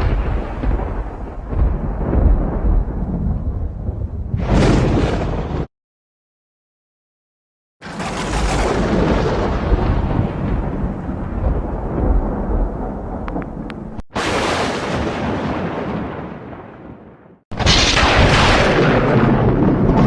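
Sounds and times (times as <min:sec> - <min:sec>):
thunder crack and rumble: 0:00.0 - 0:05.7, 0:07.8 - 0:20.0.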